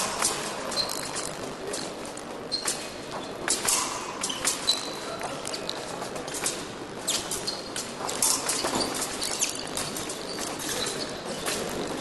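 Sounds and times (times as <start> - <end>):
fencing blades clinking: 0.0 - 12.0
fencing footwork tapping and scuffing: 0.0 - 12.0.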